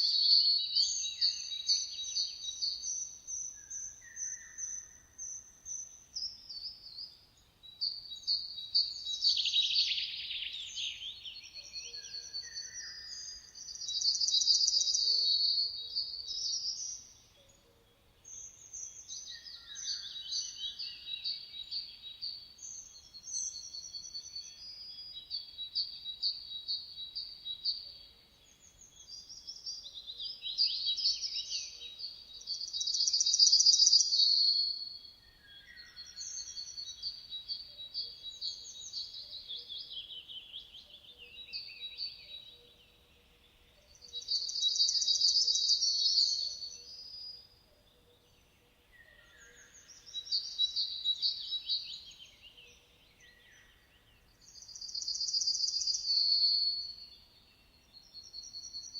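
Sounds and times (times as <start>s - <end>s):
songbirds singing trills: 0.0s - 58.9s.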